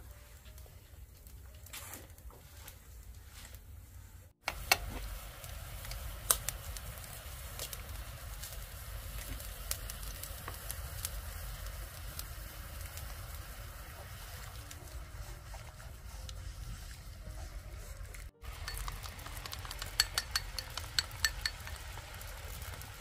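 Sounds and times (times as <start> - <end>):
sauce bubbling and sizzling in a pan: 4.4 - 23.0.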